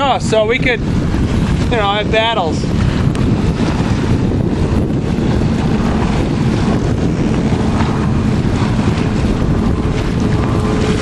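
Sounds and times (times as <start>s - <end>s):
choppy water washing: 0.0s - 11.0s
wind rumbling on microphone: 0.0s - 11.0s.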